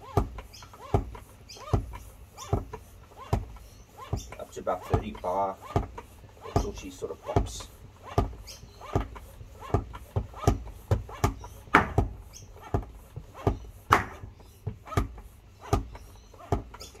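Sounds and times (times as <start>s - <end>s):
floor pump strokes: 0.0s - 17.0s.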